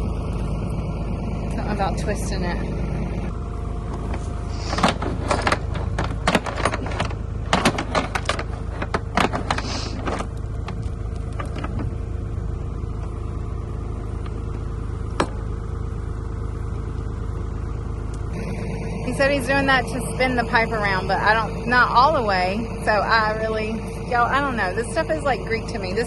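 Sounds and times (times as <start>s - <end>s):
backhoe engine running: 0.0s - 26.0s.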